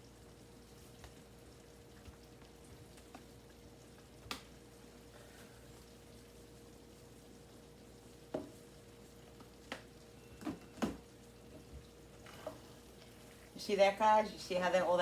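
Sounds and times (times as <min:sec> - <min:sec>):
sauce simmering in a pan: 0:00.0 - 0:15.0.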